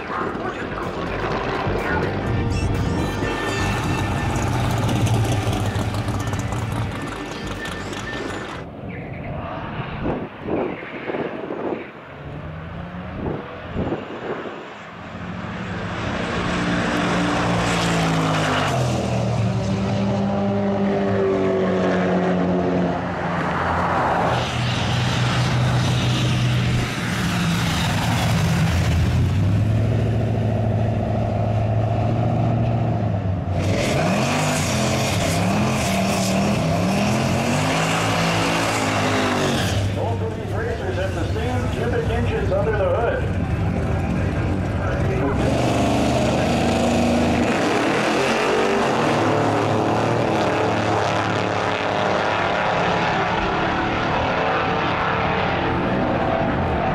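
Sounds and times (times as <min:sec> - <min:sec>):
car engine running and revving: 0:00.0 - 0:08.7, 0:11.4 - 0:56.9.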